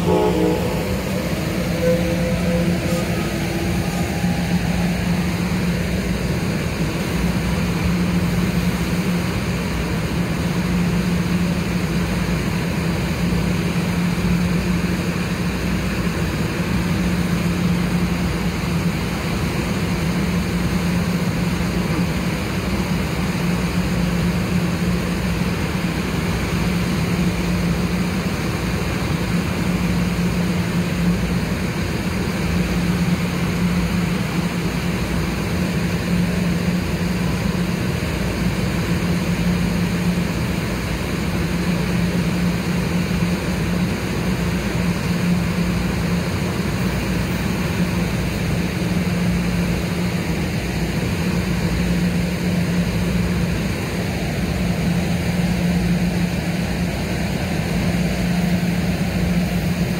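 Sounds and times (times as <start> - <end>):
diesel locomotive idling: 0.0 - 59.9.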